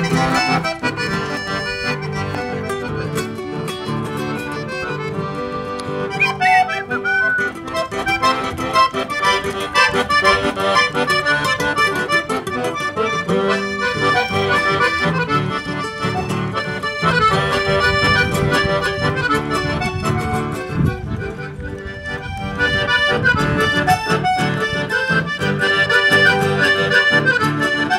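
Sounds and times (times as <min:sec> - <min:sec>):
acoustic guitar accompaniment: 0:00.0 - 0:27.9
piano accordion playing: 0:00.0 - 0:27.9.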